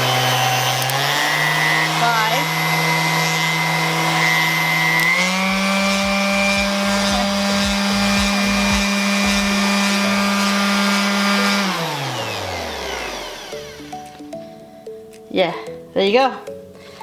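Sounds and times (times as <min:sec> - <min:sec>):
orbital sander motor: 0:00.0 - 0:14.6.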